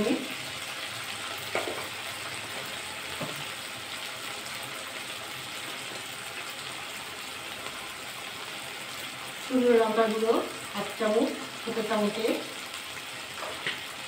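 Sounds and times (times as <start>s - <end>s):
oil sizzling with spices: 0.0s - 14.0s.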